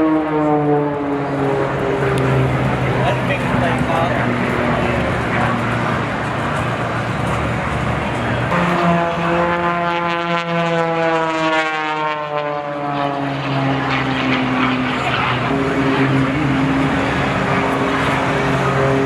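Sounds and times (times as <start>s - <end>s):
aircraft engines passing by: 0.0s - 19.0s.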